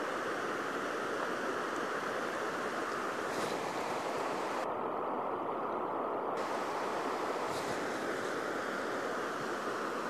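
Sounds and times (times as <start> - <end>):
river water pouring over a weir: 0.0 - 10.0.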